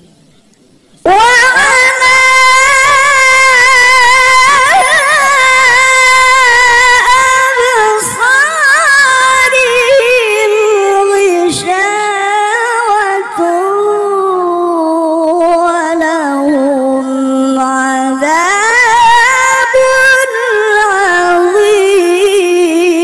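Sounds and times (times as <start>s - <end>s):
person chanting: 1.0s - 23.0s.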